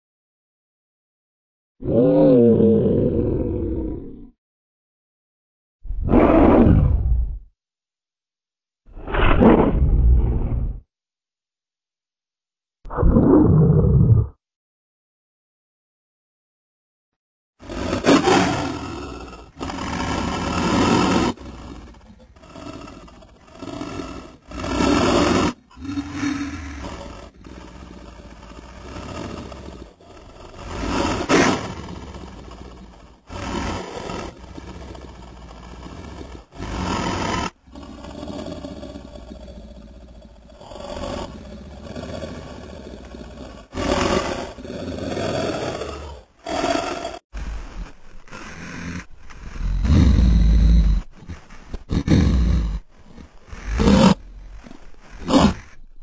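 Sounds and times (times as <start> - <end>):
dinosaur roars: 1.8 - 4.4, 5.9 - 7.5, 8.9 - 10.9, 12.9 - 14.4, 17.6 - 56.0
low growls: 1.8 - 4.4, 5.8 - 7.5, 8.9 - 10.9, 12.9 - 14.4, 17.6 - 56.0.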